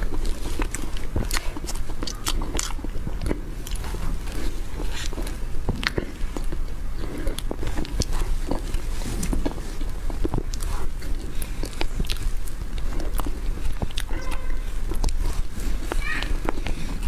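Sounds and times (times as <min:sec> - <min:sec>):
mouth clicks: 0:00.0 - 0:17.0
person chewing soft cake: 0:00.0 - 0:17.0.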